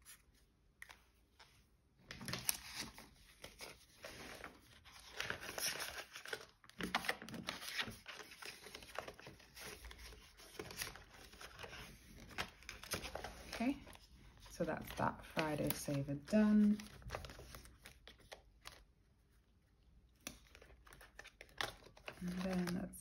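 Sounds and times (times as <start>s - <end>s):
paper rustling and crinkling: 0.0s - 18.9s, 20.2s - 23.0s.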